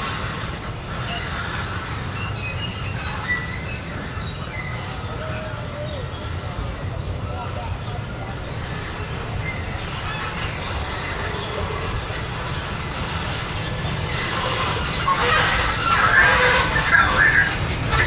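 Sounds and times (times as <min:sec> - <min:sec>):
escalator low rumble: 0:00.0 - 0:18.0
escalator mechanism squealing: 0:00.0 - 0:18.0.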